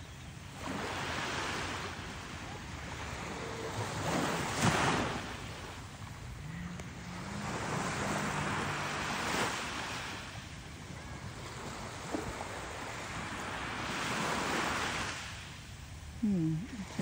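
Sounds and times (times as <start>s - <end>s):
surf washing onto sand: 0.6s - 15.5s.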